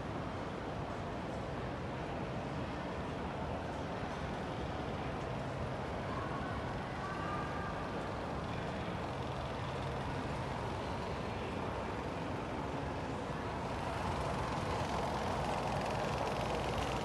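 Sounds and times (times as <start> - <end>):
escalator mechanical hum and rumble: 0.0 - 17.0.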